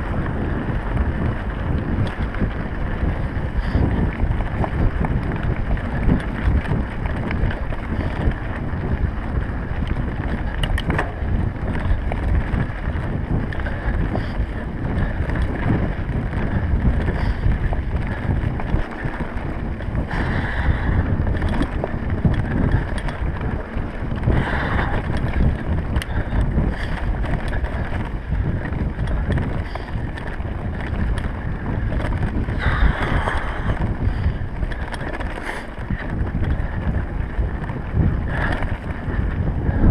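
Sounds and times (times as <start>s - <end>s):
bike rumbling and rattling: 0.0s - 39.9s
wind buffeting microphone: 0.0s - 39.9s.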